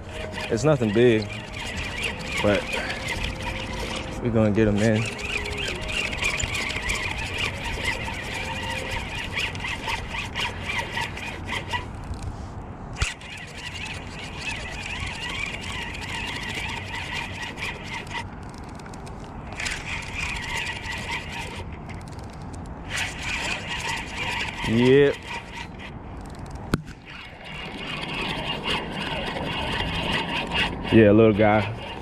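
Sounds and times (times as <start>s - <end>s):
fishing reel whirring and clicking: 0.0s - 32.0s.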